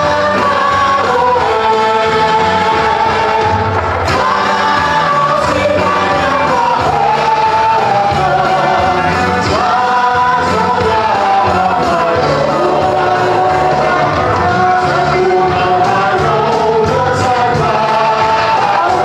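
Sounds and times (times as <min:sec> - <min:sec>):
group singing worship song: 0:00.0 - 0:19.0
musical backing: 0:00.0 - 0:19.0.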